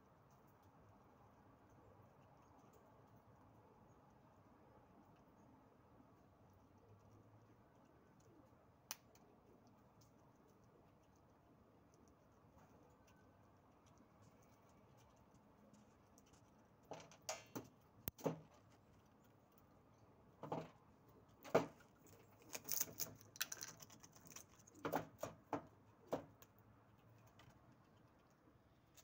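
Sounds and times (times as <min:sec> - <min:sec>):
squirrel scratching pine cone: 0:00.0 - 0:29.0.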